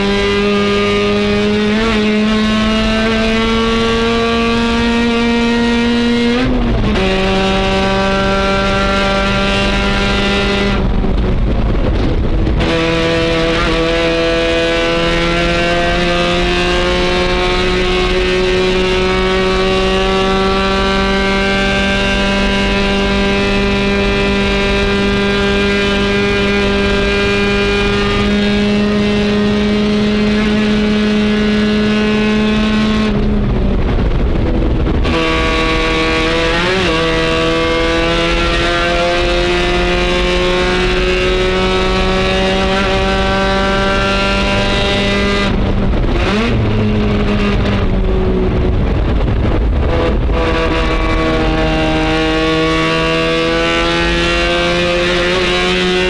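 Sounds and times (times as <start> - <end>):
race car engine from cockpit: 0.0 - 56.0.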